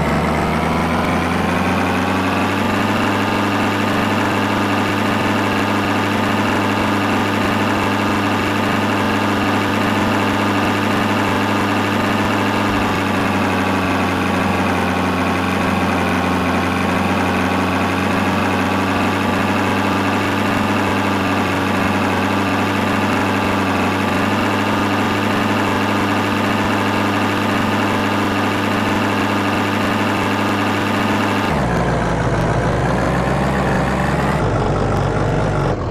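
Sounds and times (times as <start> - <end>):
heavy vehicle engine idling: 0.0 - 35.9.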